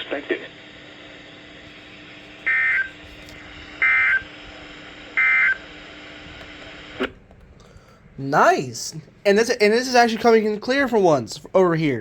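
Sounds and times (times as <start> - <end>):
faint radio hum: 0.0 - 12.0.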